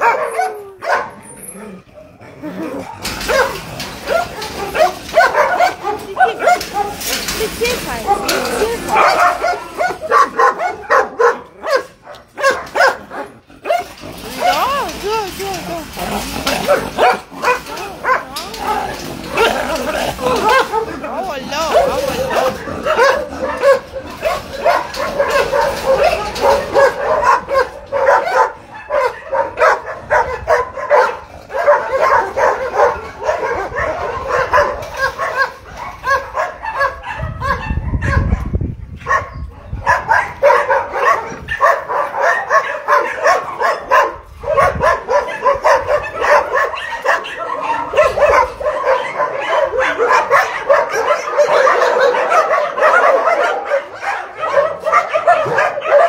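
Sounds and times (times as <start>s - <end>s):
many dogs barking and yelping: 0.0s - 56.0s.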